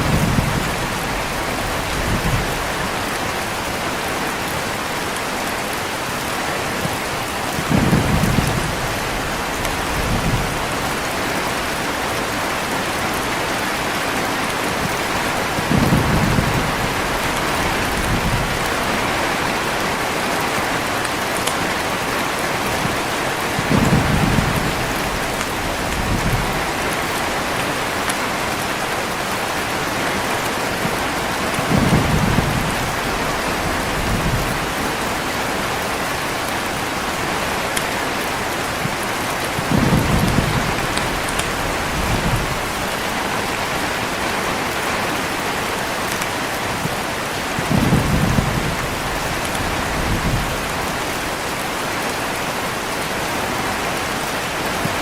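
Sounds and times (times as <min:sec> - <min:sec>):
thunder rumbling: 0:00.0 - 0:04.9, 0:06.6 - 0:13.5, 0:14.5 - 0:21.3, 0:22.5 - 0:28.6, 0:30.5 - 0:44.2, 0:45.4 - 0:51.6
heavy rain: 0:00.0 - 0:55.0.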